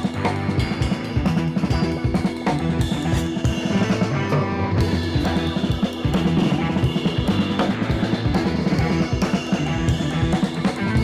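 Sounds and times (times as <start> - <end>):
rock music with drums and guitar: 0.0 - 11.0.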